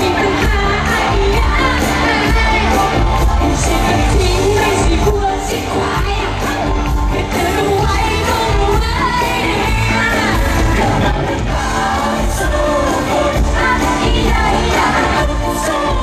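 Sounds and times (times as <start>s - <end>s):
group singing pop song: 0.0s - 16.0s
live band with drums: 0.0s - 16.0s.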